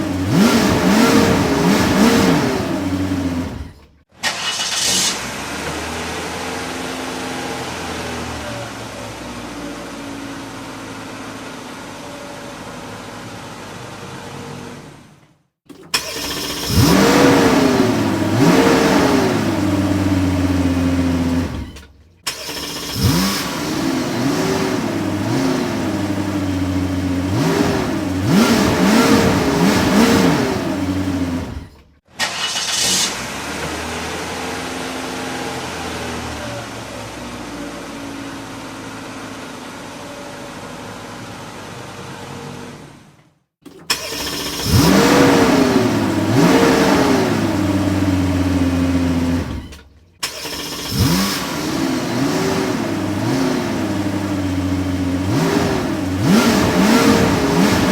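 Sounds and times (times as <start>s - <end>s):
car engine revving: 0.0s - 11.4s, 15.7s - 39.6s, 43.7s - 57.9s.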